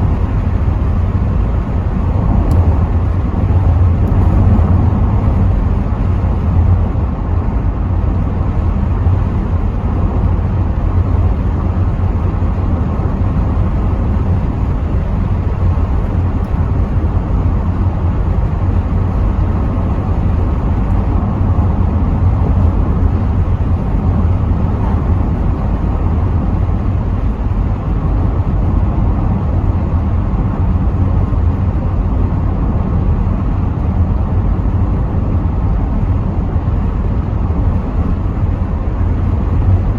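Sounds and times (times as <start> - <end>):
car cabin road rumble: 0.0 - 39.9.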